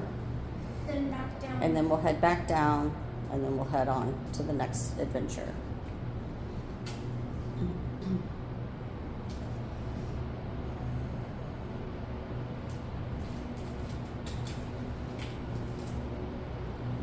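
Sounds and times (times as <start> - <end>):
elevator machinery humming: 0.0 - 17.0.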